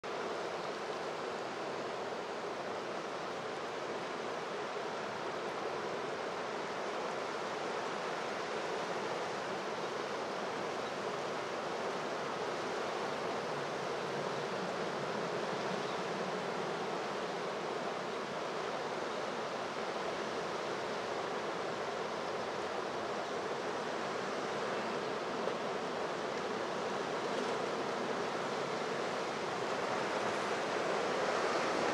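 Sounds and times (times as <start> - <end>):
river water rushing: 0.1 - 31.9.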